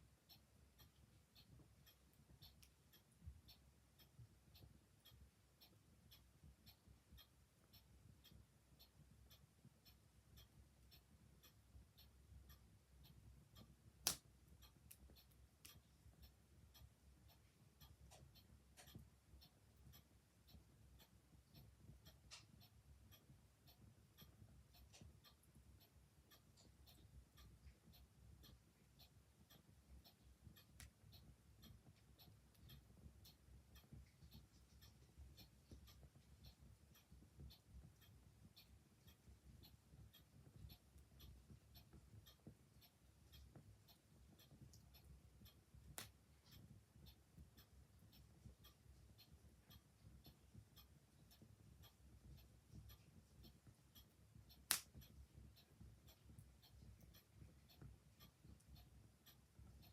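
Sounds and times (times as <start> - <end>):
clock ticking: 0.0 - 59.9
quiet wood fire: 0.0 - 59.9.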